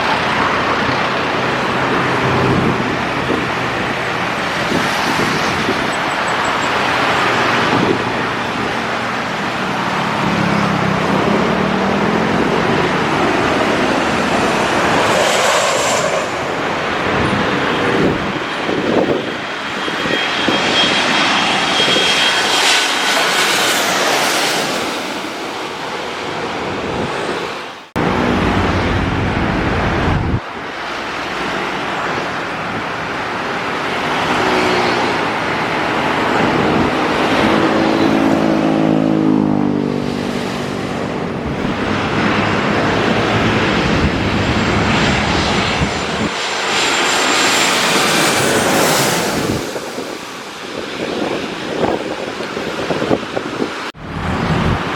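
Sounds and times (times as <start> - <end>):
jet airliner passing overhead: 0.0 - 54.9
road traffic: 0.0 - 54.9.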